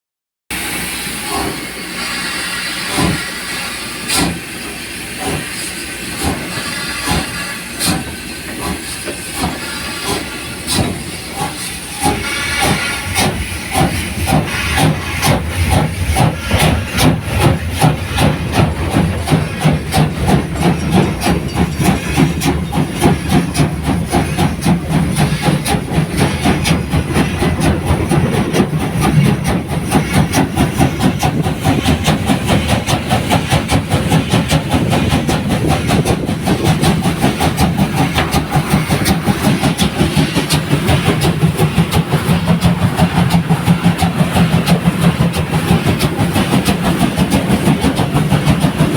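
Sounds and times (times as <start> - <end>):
steam locomotive hissing: 0.5 - 48.9
locomotive exhaust beats: 0.8 - 48.9.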